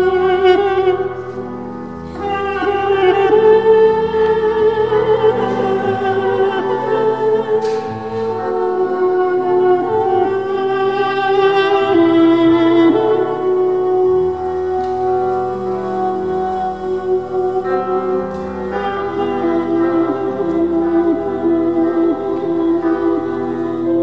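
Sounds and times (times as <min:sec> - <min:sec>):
duduk playing slow melody: 0:00.0 - 0:24.0
piano accompaniment: 0:00.0 - 0:24.0.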